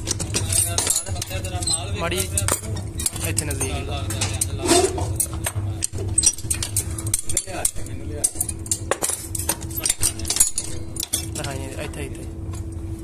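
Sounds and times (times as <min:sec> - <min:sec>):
metal clinks and clanks: 0:00.0 - 0:11.9
steady low hum: 0:00.0 - 0:13.0.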